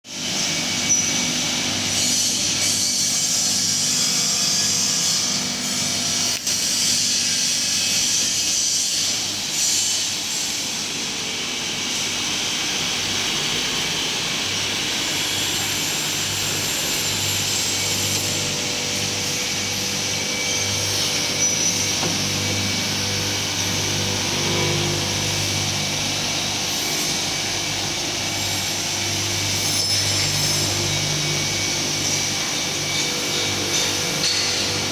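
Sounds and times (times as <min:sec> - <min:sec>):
glass grinding machine running: 0:00.1 - 0:34.9.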